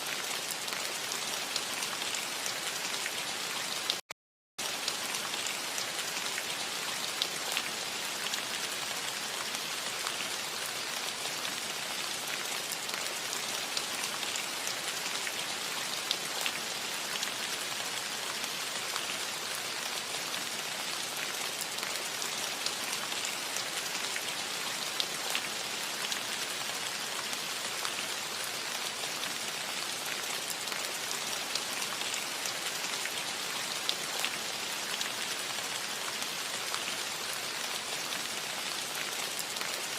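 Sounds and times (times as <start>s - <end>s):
rain on a metal roof: 0.0s - 4.0s, 4.6s - 39.9s.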